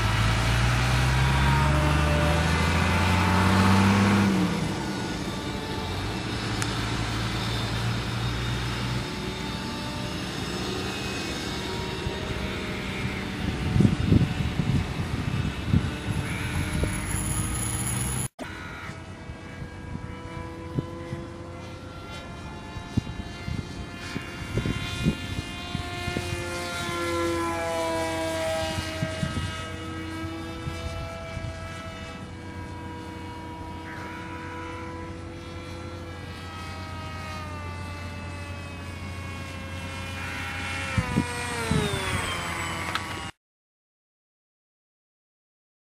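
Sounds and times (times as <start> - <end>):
model plane motor whining: 0.0 - 43.4.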